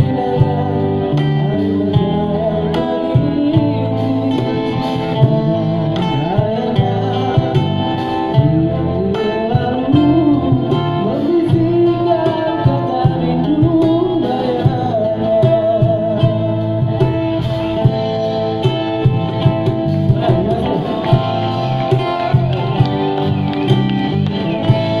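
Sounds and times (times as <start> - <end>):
man singing: 0.0 - 18.5, 19.8 - 23.1
guitar with steady beat: 0.0 - 25.0.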